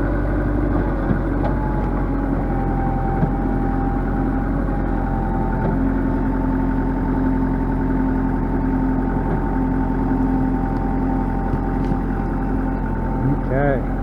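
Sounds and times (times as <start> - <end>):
tractor engine running steadily: 0.0 - 14.0.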